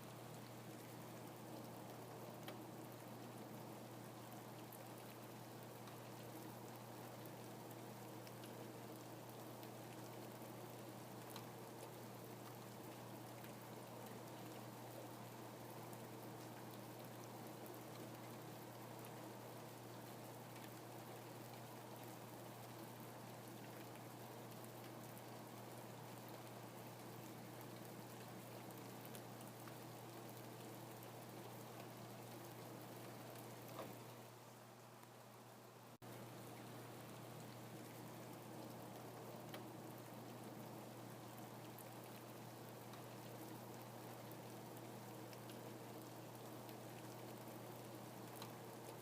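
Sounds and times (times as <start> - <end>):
faint rain falling: 0.0 - 49.0
low steady hum: 0.0 - 49.0
raindrop ticks: 0.3 - 3.4, 4.1 - 14.7, 20.0 - 34.2, 36.0 - 49.0.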